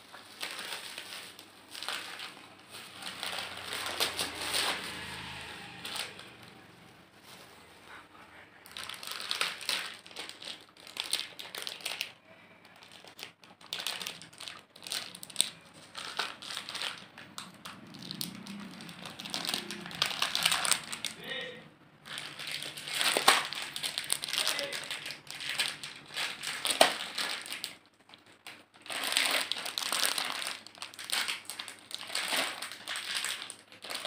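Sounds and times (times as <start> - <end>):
plastic wrapping crinkling: 0.0 - 34.0.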